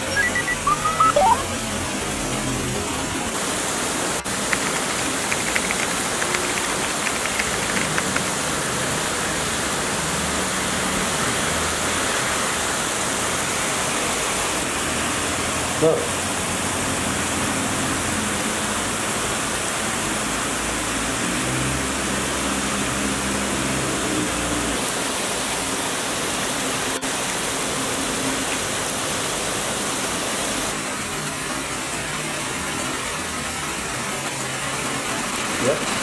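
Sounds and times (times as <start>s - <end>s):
cars rumbling on flooded street: 1.8s - 36.0s
heavy rain hissing: 3.2s - 36.0s.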